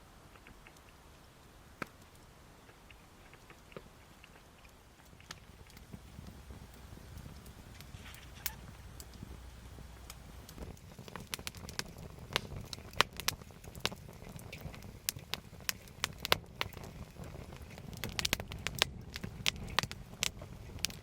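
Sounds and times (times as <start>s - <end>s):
campfire crackling and popping: 0.2s - 21.0s.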